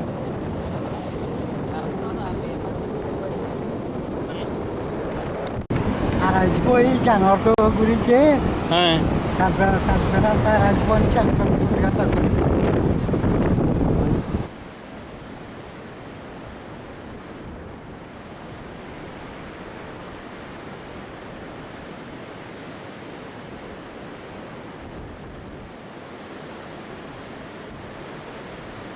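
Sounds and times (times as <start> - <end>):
sea surf breaking on beach: 0.0 - 28.9
wind: 0.0 - 28.9.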